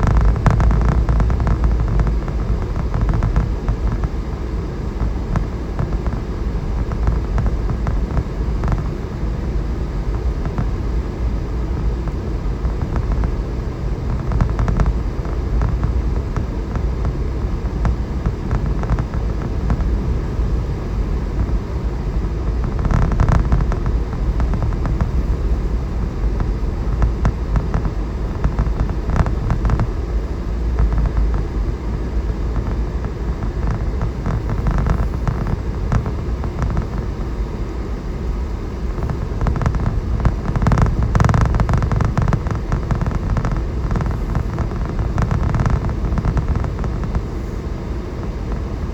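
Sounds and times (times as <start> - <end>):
crackling: 0.0 - 48.9
vehicle engine and tyres rumbling: 0.0 - 48.9.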